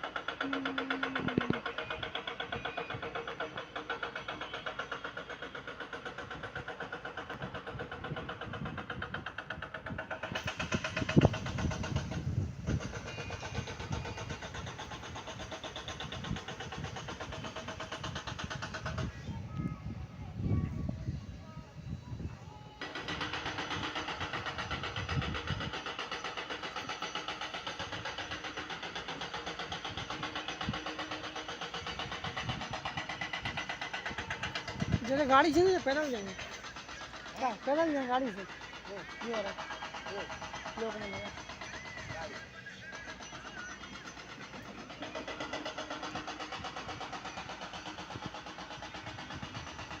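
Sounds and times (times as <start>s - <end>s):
truck diesel engine pulsing: 0.0s - 50.0s.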